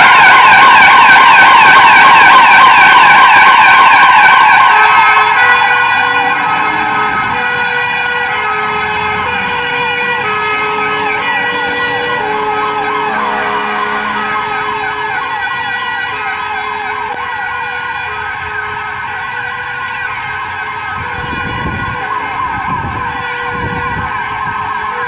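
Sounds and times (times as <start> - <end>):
siren sweeping up and down: 0.0 - 25.0
two-tone hi-lo siren: 0.0 - 25.0.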